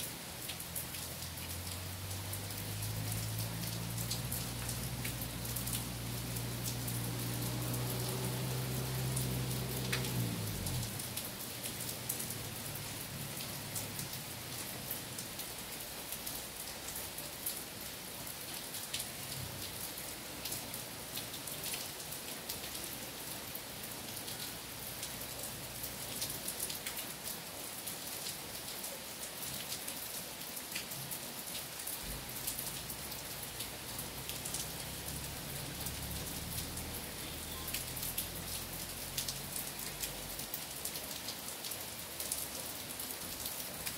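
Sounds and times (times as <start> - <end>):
rain falling on trees and puddles: 0.0 - 43.9.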